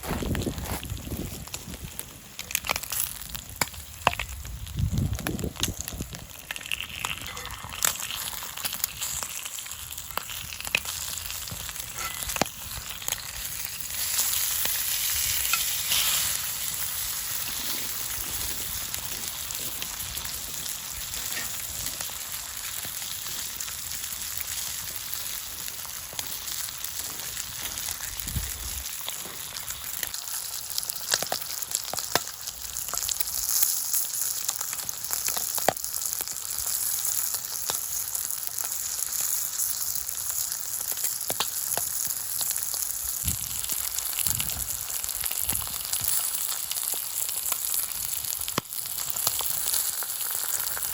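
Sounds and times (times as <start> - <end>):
bacon and eggs sizzling: 0.0 - 50.9.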